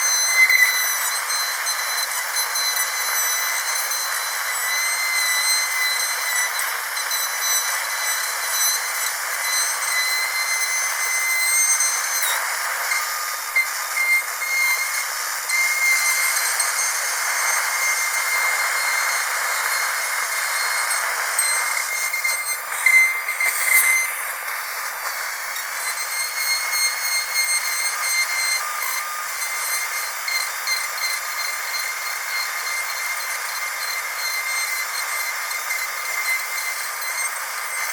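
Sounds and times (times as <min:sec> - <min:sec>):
dentist's drill whining: 0:00.0 - 0:37.9
hiss: 0:00.0 - 0:37.9.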